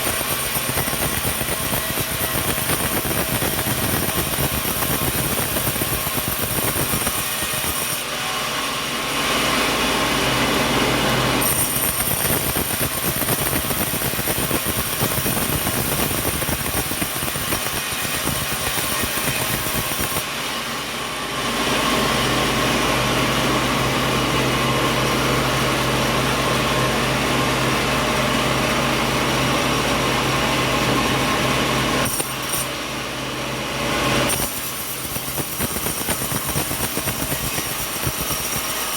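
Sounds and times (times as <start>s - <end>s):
sawmill saw running: 0.0s - 38.9s.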